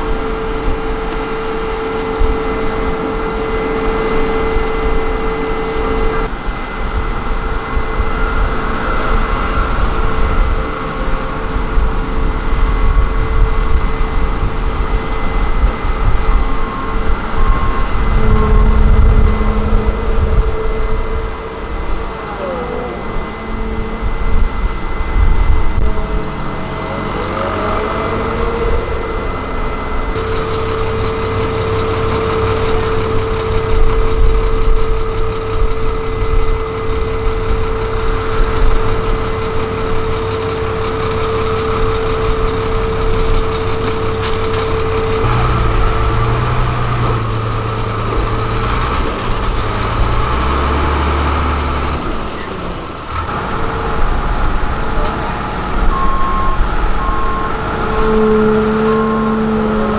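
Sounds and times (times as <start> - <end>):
diesel machinery engine rumble: 0.0 - 59.9
steady machine whine: 0.0 - 59.9.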